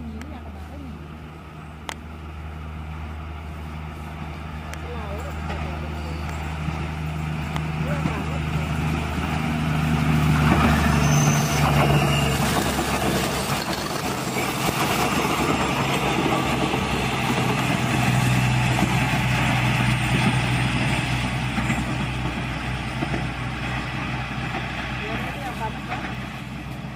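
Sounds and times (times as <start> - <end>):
train engine drone: 0.0 - 26.9
train wheels rumbling on rails: 0.0 - 26.9.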